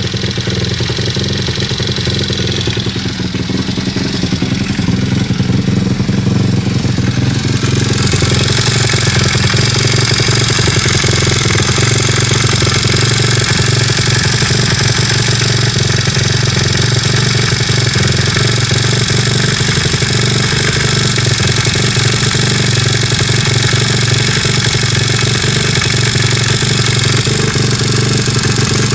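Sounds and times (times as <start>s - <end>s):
engine knocking: 0.0s - 28.9s
pit bike engine running: 0.0s - 28.9s.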